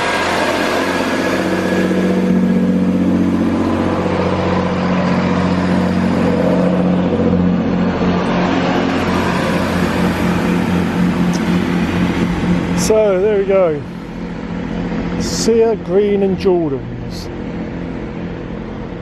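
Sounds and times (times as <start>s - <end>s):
train diesel engine humming: 0.0s - 19.0s.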